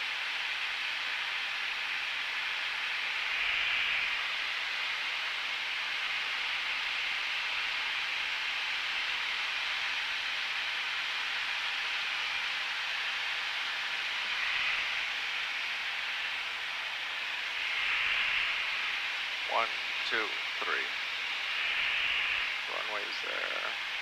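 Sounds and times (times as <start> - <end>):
aircraft cockpit hiss: 0.0 - 24.0.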